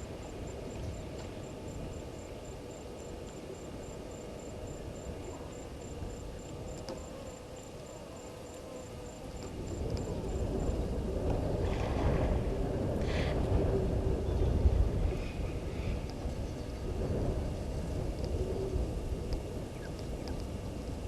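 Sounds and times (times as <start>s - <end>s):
cricket chirping: 0.0s - 21.0s
low outdoor rumble: 0.0s - 21.0s.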